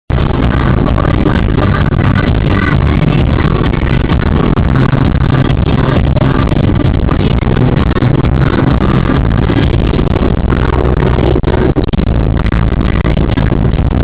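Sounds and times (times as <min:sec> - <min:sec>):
car driving drone: 0:00.1 - 0:14.0
music playing: 0:00.1 - 0:14.0.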